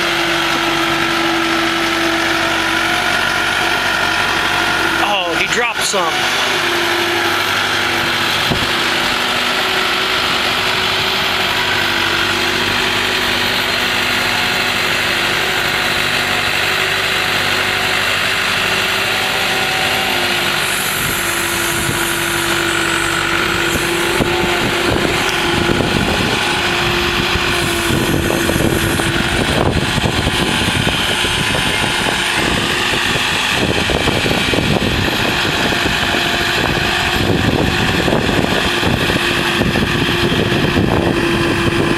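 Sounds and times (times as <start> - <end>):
constant whine: 0.0 - 41.9
loader engine running: 0.0 - 41.9.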